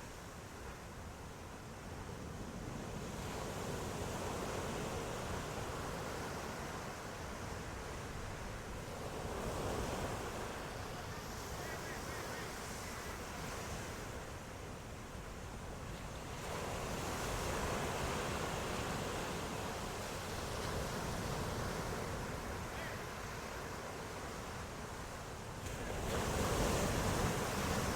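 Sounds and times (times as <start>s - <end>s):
ocean waves breaking: 4.3s - 27.9s.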